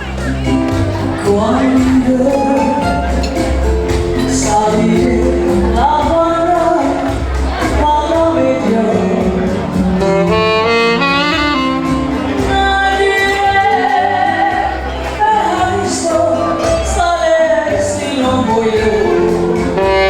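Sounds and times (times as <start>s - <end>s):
lead melody line: 0.0s - 15.0s, 17.3s - 20.0s
band music: 0.0s - 20.0s
person singing: 0.0s - 20.0s
pulsing bass: 0.0s - 20.0s.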